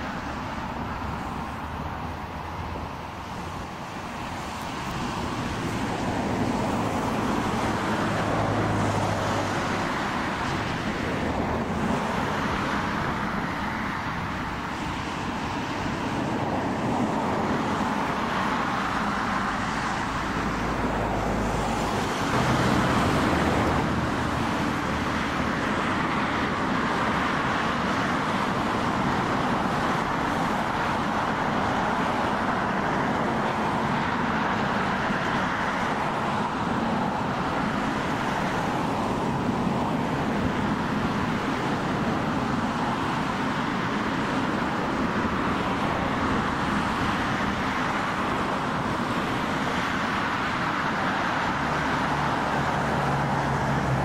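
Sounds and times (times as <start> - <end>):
distant jet engines running: 0.0 - 54.0.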